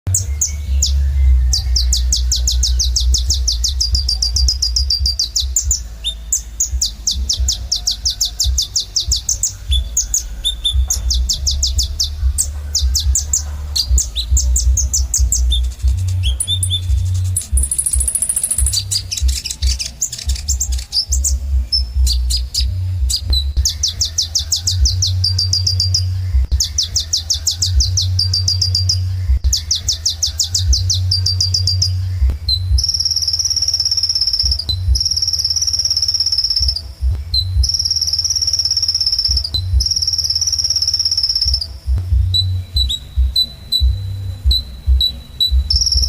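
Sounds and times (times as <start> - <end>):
bird trilling: 0.1 - 46.0
low hum: 0.1 - 46.0.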